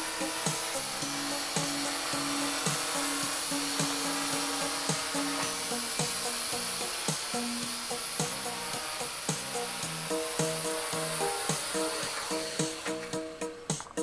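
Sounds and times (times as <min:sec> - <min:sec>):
music with steady beat: 0:00.0 - 0:14.0
quadcopter motors whirring: 0:00.0 - 0:14.0.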